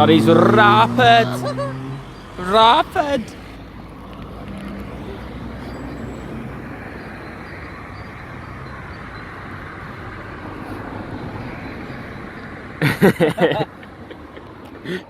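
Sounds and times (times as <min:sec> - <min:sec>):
car moving past: 0:00.0 - 0:12.9.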